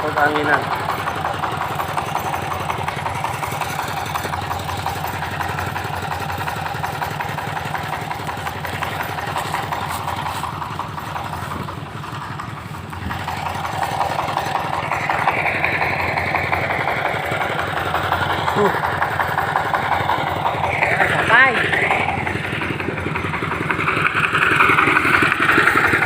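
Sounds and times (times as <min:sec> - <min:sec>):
corn sheller engine droning: 0:00.0 - 0:26.0.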